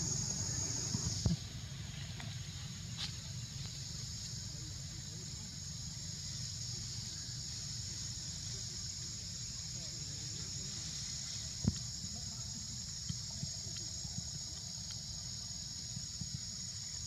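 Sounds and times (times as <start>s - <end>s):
insects droning: 0.0s - 17.0s
low constant rumble: 0.0s - 17.0s.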